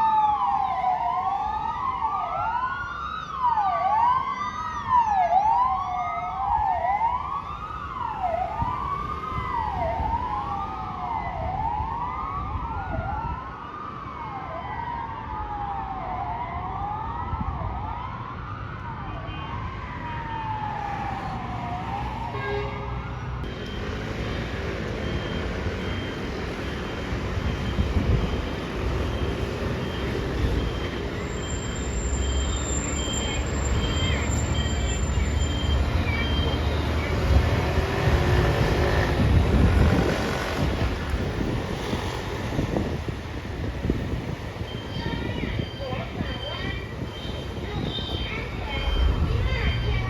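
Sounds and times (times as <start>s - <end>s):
fire engine siren wailing: 0.0s - 50.0s
road traffic noise: 0.0s - 50.0s.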